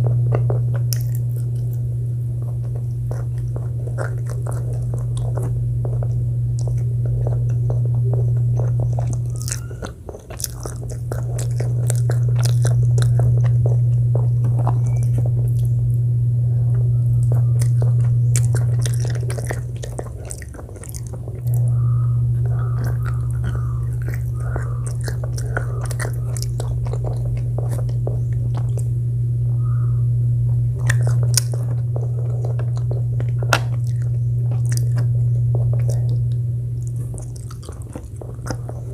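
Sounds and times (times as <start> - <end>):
crunchy biting and chewing: 0.0 - 29.0, 29.6 - 38.9
steady low hum: 0.0 - 38.9.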